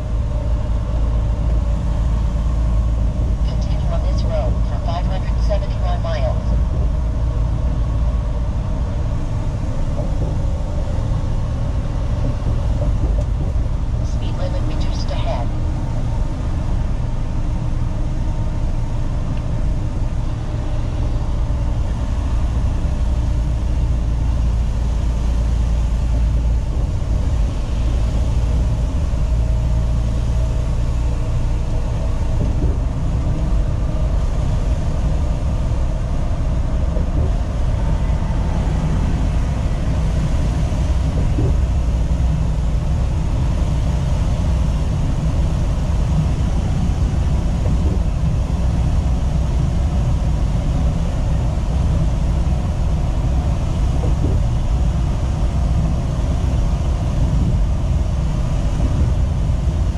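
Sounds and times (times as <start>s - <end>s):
truck engine and tyre rumble: 0.0s - 59.9s.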